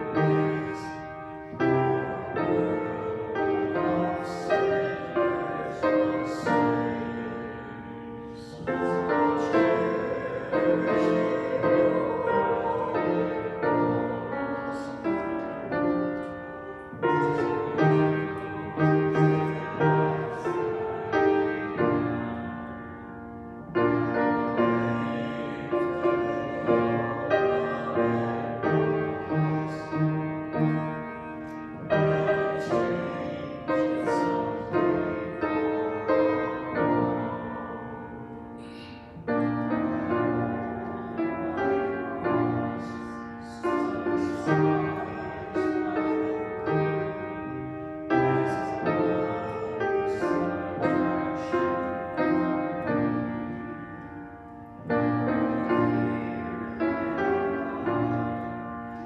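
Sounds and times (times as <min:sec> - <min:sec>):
piano playing hymn chords: 0:00.0 - 0:59.0.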